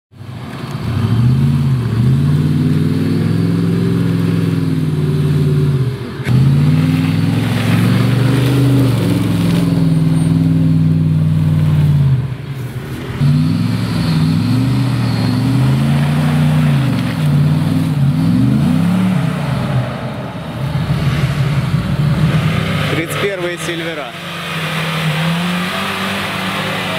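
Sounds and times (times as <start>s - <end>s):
car engine revving in mud: 0.2s - 26.9s.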